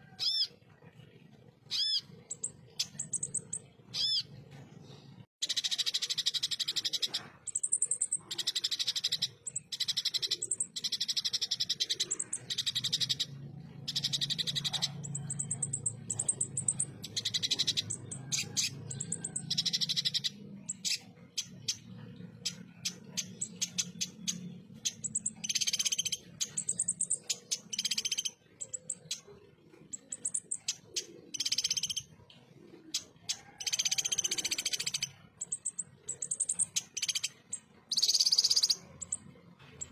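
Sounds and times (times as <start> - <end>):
bird singing rapid chips: 1.6 - 39.9.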